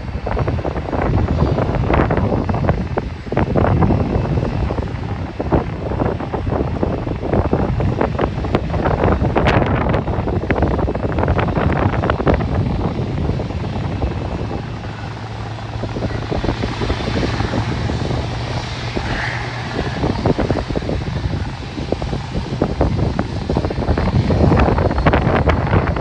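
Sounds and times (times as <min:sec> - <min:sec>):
jet engine whine: 0:00.0 - 0:26.0
jet engines humming: 0:00.0 - 0:26.0
wind buffeting microphone: 0:00.0 - 0:26.0.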